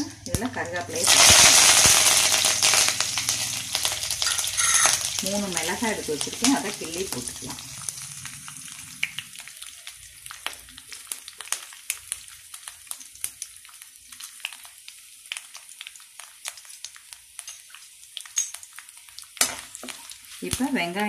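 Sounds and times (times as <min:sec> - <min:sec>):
hot oil sizzling and popping: 0:00.0 - 0:21.0.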